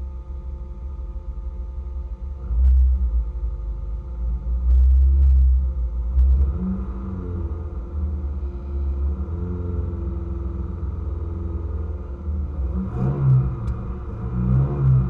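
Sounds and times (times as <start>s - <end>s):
car engine idling: 0.0s - 15.0s
engine throttle blips: 2.3s - 15.0s.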